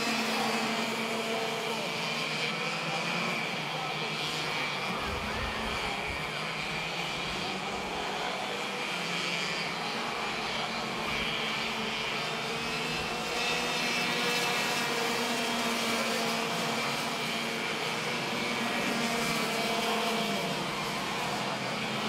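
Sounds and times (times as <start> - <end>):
racing kart engines whining: 0.0 - 22.0.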